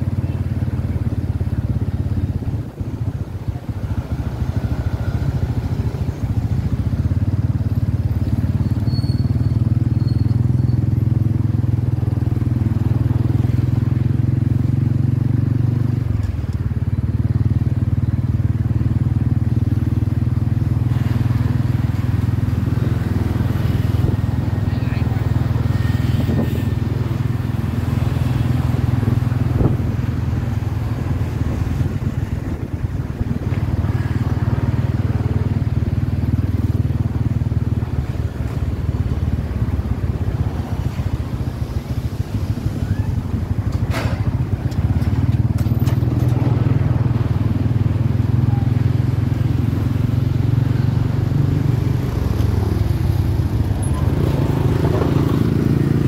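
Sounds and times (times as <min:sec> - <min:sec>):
motorcycle engine and road rumble: 0:00.0 - 0:56.0.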